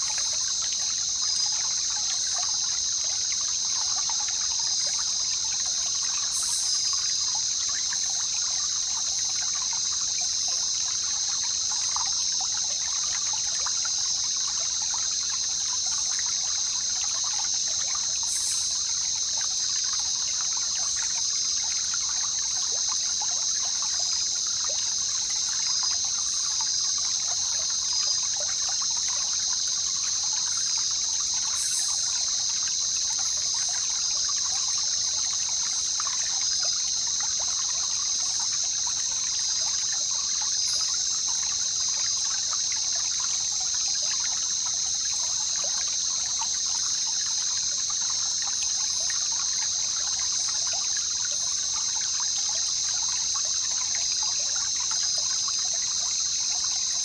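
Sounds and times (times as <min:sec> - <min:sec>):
stream water babbling: 0:00.0 - 0:57.0.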